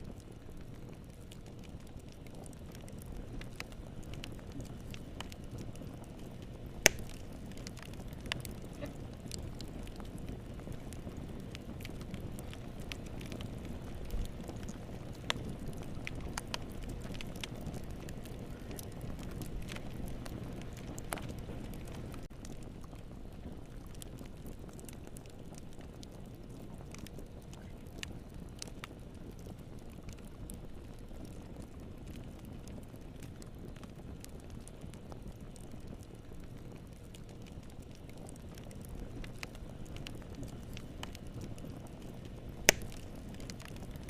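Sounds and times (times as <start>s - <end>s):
fire crackling and popping: 0.0s - 44.0s
fire flames rumbling and hissing: 0.0s - 44.0s.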